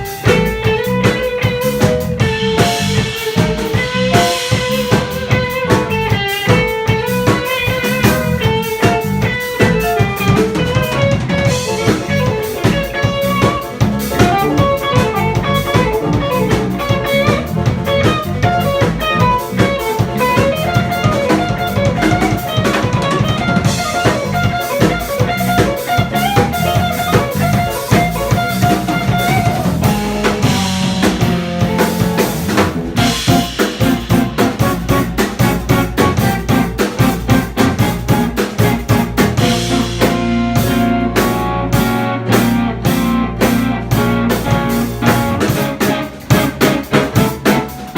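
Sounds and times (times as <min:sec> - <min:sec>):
jazz combo playing: 0:00.0 - 0:47.9.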